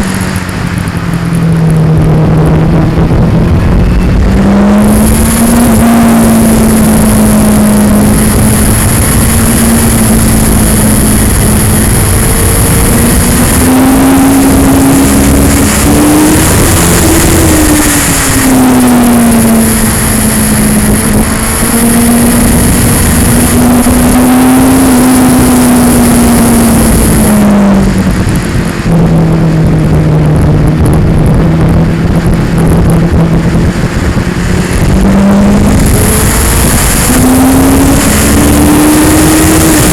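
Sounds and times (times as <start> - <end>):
motorcycle engine revving: 0.0 - 39.9
rattly camera vibration distortion: 0.0 - 39.9
wind rush: 0.0 - 39.9.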